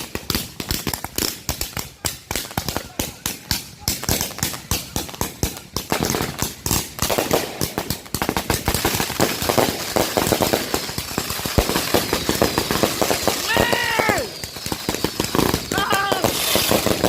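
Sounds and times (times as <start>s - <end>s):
firework bangs and crackle: 0.0s - 17.0s.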